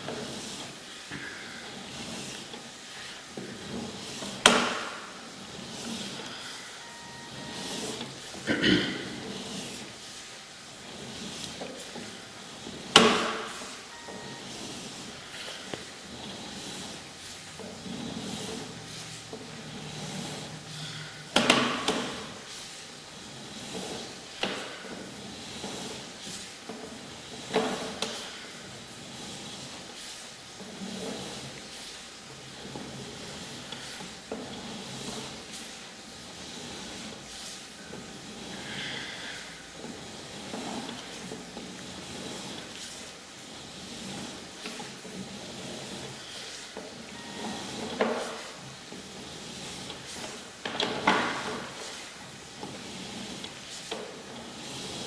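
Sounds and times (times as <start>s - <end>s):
cable scraping and sliding in pipe: 0.0s - 8.4s, 9.1s - 55.0s.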